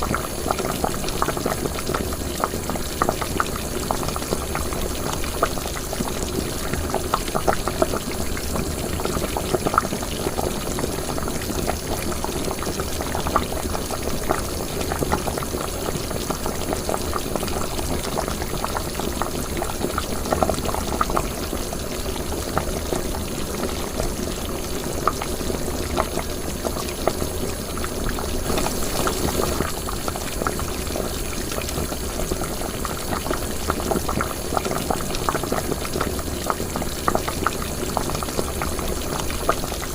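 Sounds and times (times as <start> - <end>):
liquid boiling in a pot: 0.0 - 39.9.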